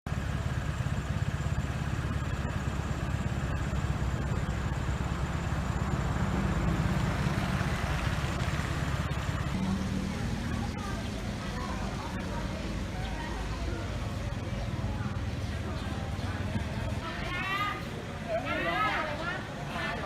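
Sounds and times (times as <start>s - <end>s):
engine running steadily: 0.1s - 20.0s
street noise: 0.1s - 20.0s.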